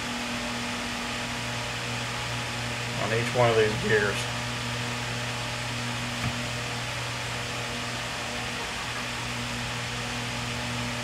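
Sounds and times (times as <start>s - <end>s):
machine humming and hissing: 0.0s - 11.0s.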